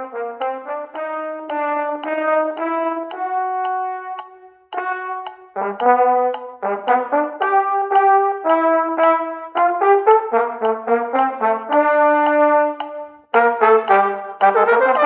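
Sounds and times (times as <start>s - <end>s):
brass band playing march: 0.0s - 4.2s, 4.8s - 15.0s.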